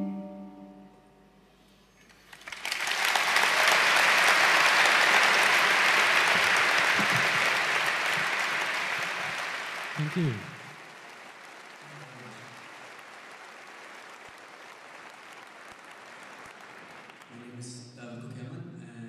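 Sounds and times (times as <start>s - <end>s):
audience applause: 2.1s - 17.6s.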